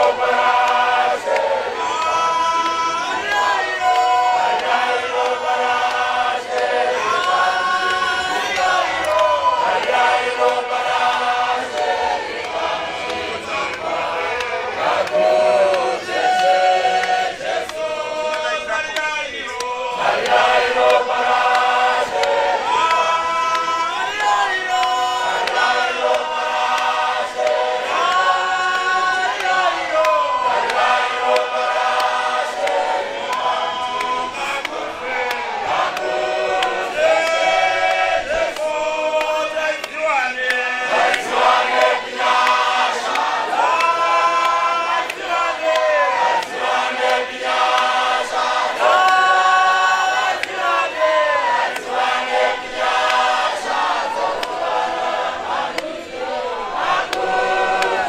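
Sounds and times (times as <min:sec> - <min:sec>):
men singing a hymn: 0:00.0 - 0:58.0.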